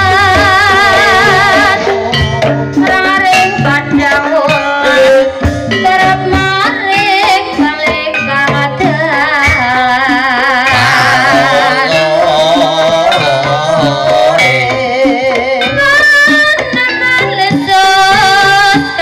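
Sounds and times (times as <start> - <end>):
pitched percussion: 0.0 - 19.0.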